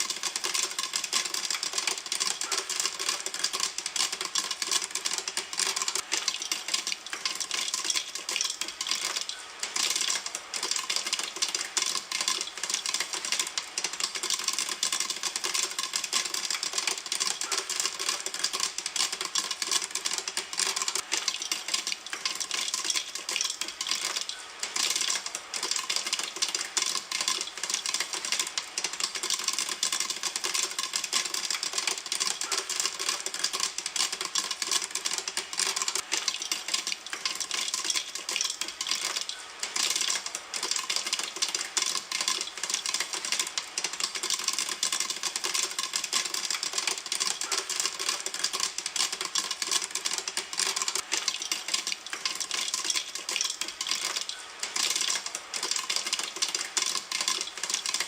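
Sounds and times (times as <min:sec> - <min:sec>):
popcorn popping in a pan: 0:00.0 - 0:58.0.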